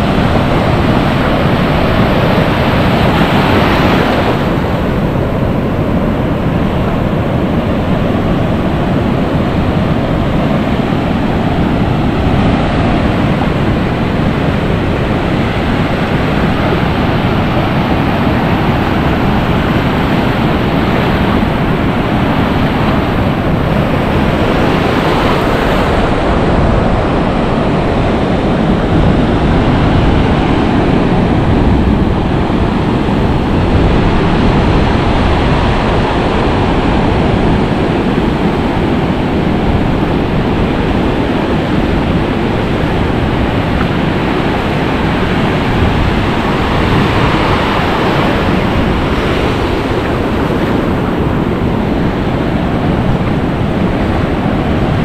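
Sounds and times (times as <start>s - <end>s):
ocean surf breaking: 0.0s - 55.0s
wind rumbling on microphone: 0.0s - 55.0s.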